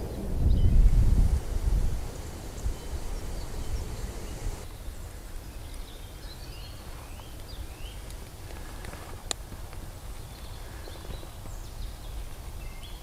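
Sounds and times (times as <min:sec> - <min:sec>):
small birds chirping: 0:00.0 - 0:09.4, 0:10.1 - 0:13.0
wind on microphone: 0:00.0 - 0:13.0.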